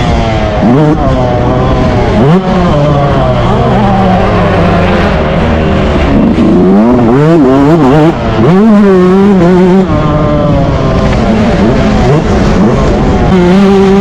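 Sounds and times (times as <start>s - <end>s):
motocross engine revving: 0.0s - 14.0s.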